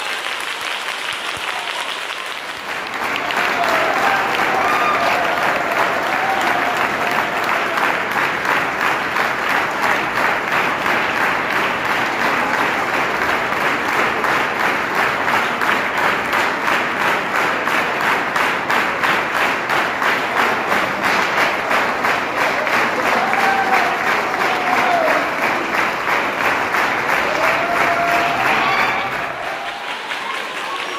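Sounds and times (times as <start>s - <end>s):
crowd clapping in unison: 0.0s - 30.9s.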